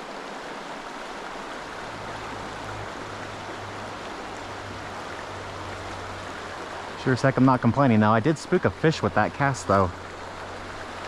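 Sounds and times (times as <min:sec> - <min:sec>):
creek water flowing: 0:00.0 - 0:11.0
low steady hum: 0:00.0 - 0:11.0.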